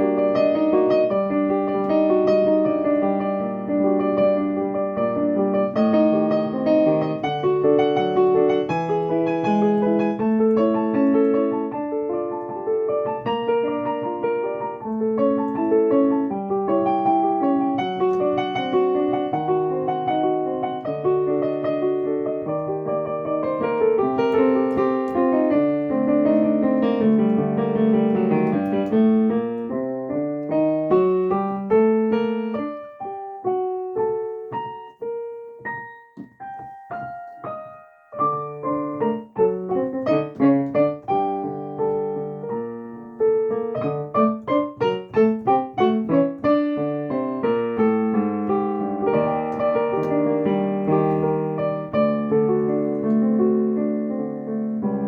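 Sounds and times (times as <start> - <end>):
solo piano improvisation: 0.0 - 55.0.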